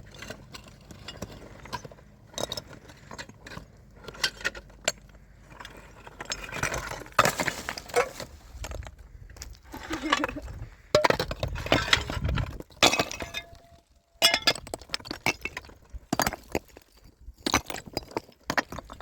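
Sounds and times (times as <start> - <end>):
small hard objects clinking: 0.0 - 19.0.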